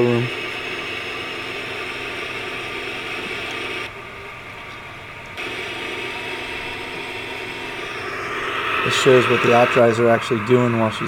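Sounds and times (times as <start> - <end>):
steady hiss: 0.0 - 3.9, 5.4 - 11.0
low hum: 0.0 - 11.0.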